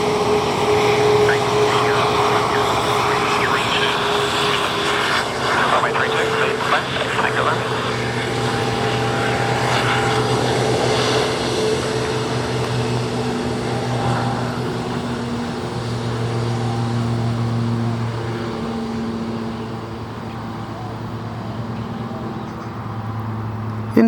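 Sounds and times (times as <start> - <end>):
airliner engines idling: 0.0 - 24.0
steady engine tones: 0.0 - 24.0.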